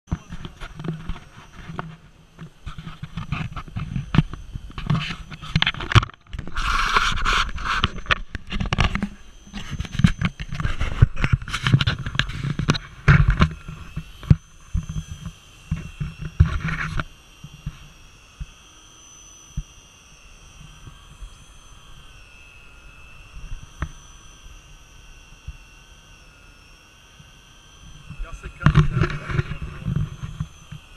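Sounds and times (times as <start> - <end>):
fishing reel motor whining: 0.1 - 30.9.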